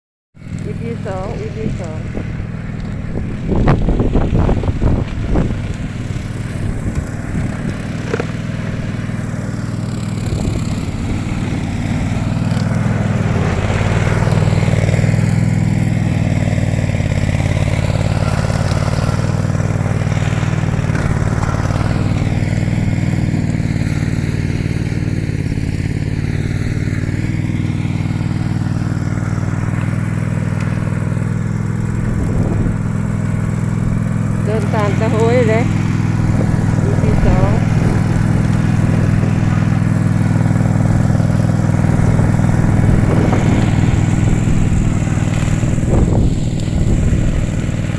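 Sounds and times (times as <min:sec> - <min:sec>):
brush cutter engine running: 0:00.4 - 0:47.9.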